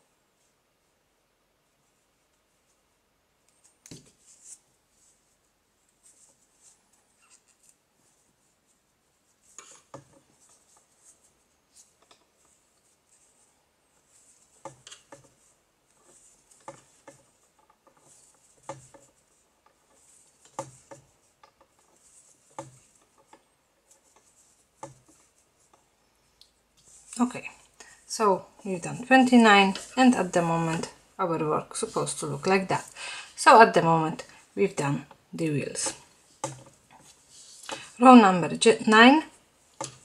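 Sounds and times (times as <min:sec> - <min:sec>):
yarn rustling with crochet hook: 0:00.0 - 0:40.0.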